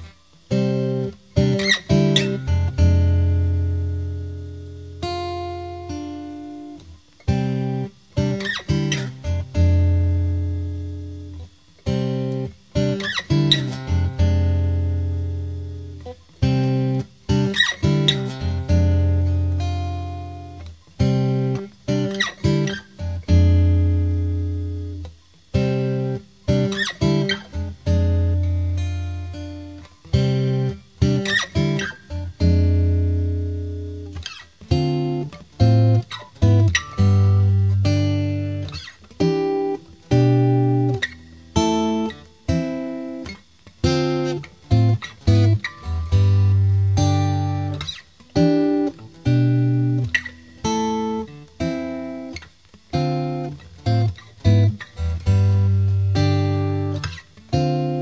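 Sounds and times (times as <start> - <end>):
acoustic guitar: 0.0 - 58.0.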